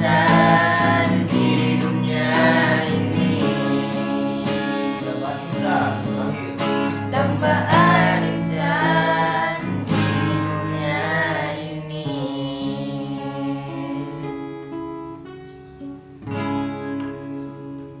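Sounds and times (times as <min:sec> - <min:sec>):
person singing: 0:00.0 - 0:14.4
strummed acoustic guitar chords: 0:00.0 - 0:18.0.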